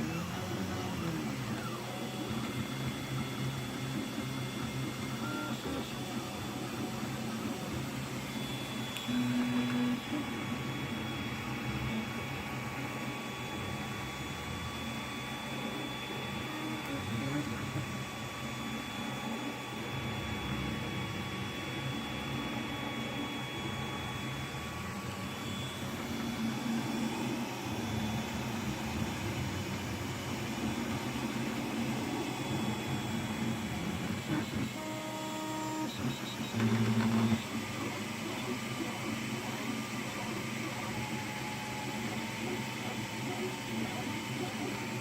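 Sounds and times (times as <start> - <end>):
printer stepper motors whirring: 0.0 - 45.0.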